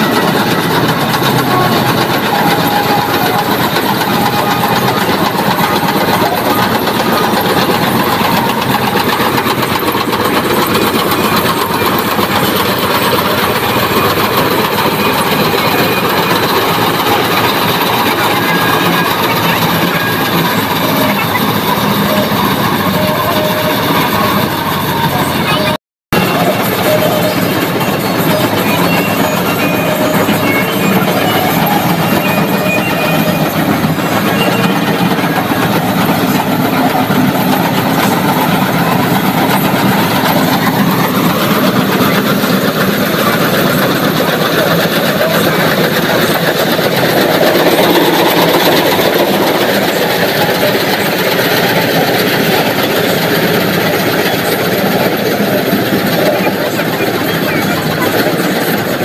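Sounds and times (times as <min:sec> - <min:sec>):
diesel engine running: 0:00.0 - 0:59.0
harvester cutter and drum clatter: 0:00.0 - 0:59.0.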